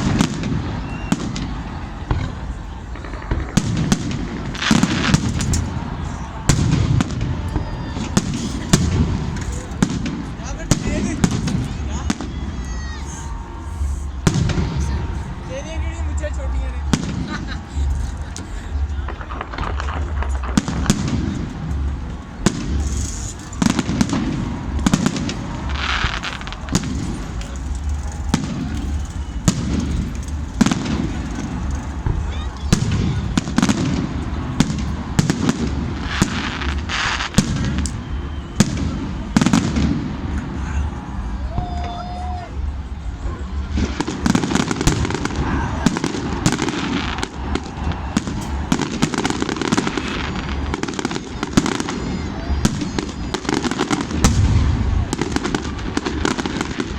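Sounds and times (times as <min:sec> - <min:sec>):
fireworks bangs: 0:00.0 - 0:56.9
fireworks crackling: 0:00.0 - 0:56.9.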